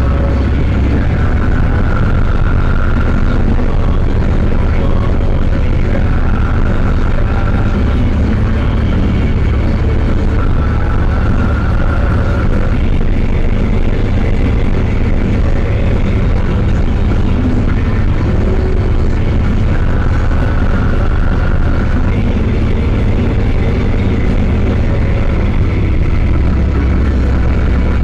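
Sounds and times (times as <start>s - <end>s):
high engine whine: 0.0s - 28.0s
tractor diesel engine droning: 0.0s - 28.0s.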